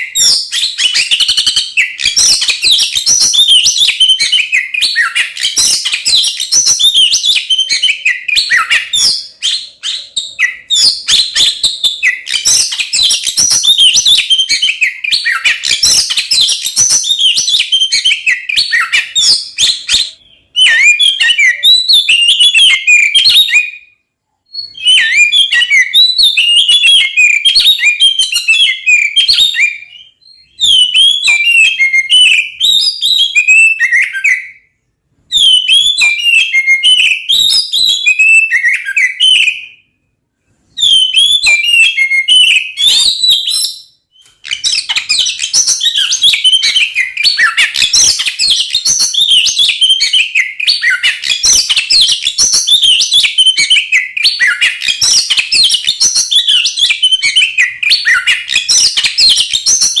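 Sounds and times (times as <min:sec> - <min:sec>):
magpie-robin whistled song: 0:00.0 - 0:40.0, 0:40.7 - 1:00.0.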